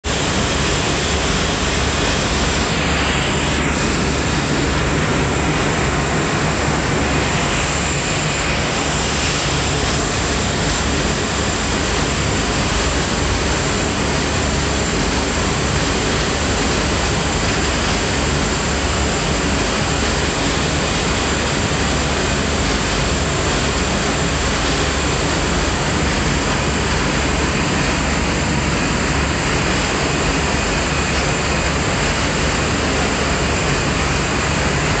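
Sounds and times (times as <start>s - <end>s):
ship engines droning: 0.1s - 35.0s.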